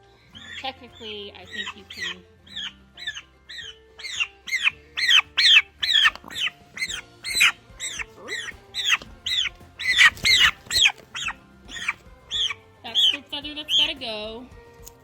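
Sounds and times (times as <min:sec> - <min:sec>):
young turkey peeping: 0:00.0 - 0:14.1.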